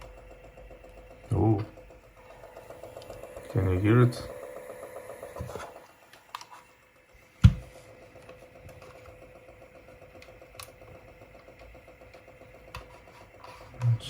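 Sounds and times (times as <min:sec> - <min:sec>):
faint hum: 0:00.0 - 0:14.0
tape transport whirring: 0:00.0 - 0:14.0.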